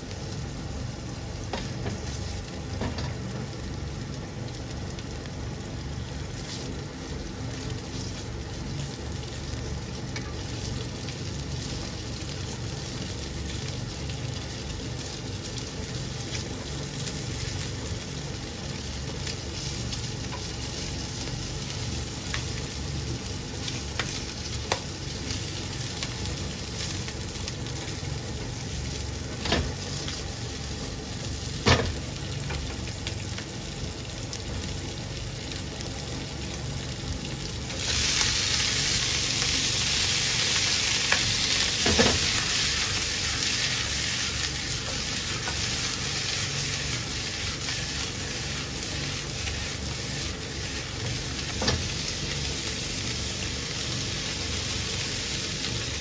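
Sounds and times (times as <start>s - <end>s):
sausages sizzling in oil: 0.0s - 56.0s.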